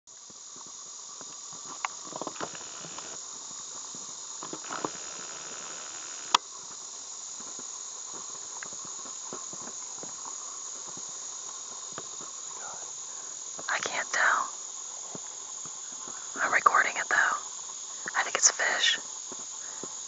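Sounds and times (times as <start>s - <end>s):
insects chorus: 0.1s - 20.0s.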